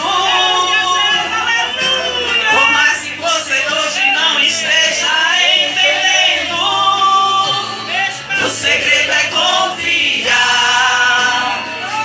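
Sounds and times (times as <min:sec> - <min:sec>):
women singing a hymn: 0:00.0 - 0:12.0.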